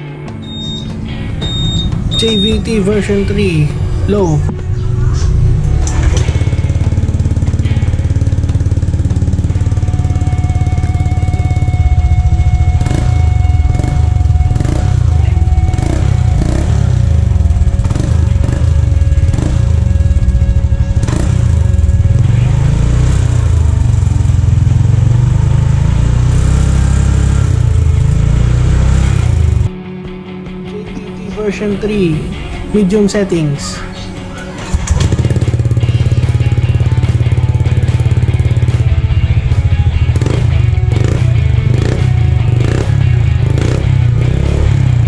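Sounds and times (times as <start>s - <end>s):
scooter engine deep exhaust note: 0.0s - 29.8s, 33.7s - 45.0s.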